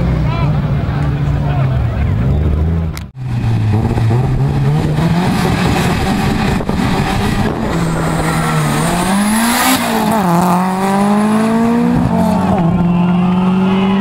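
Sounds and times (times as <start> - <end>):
drag car engines blipping: 0.0 - 14.0.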